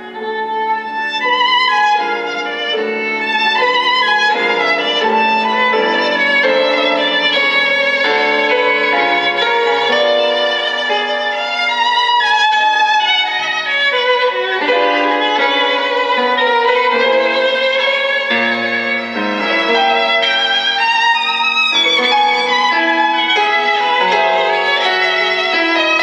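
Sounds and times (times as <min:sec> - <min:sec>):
violin melody through speakers: 0:00.0 - 0:26.0.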